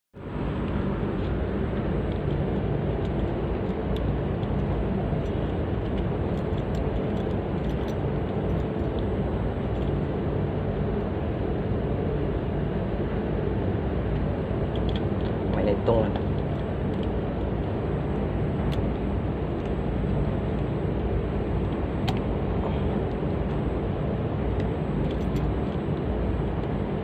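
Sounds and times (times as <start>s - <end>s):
air conditioner unit humming: 0.2s - 27.0s.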